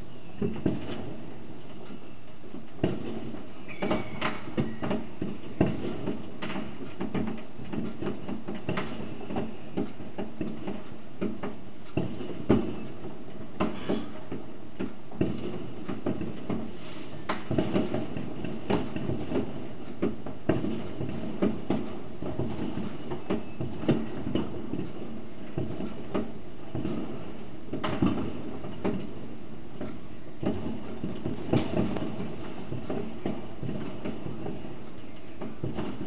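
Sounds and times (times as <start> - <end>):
fireworks bangs and cracks: 0.0 - 1.4, 2.4 - 14.5, 15.1 - 34.8, 35.4 - 36.0
steady hiss: 0.0 - 36.0.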